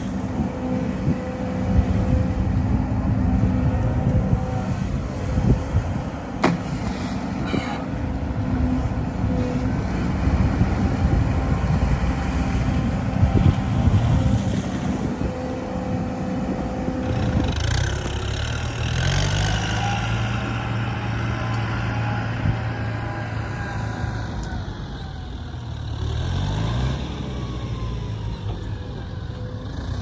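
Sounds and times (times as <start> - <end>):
diesel machinery engine revving: 0.0 - 30.0.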